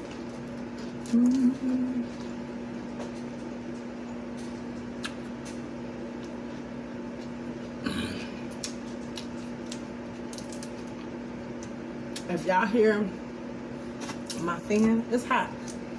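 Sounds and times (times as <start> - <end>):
electric fan humming: 0.0 - 15.9.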